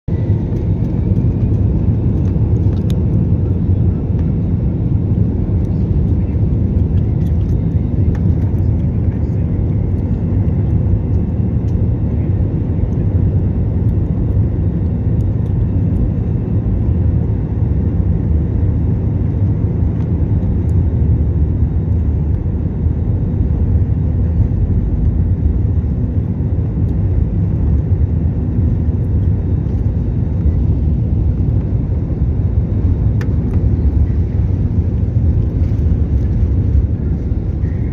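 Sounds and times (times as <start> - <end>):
jet airliner taking off: 0.1 - 37.9.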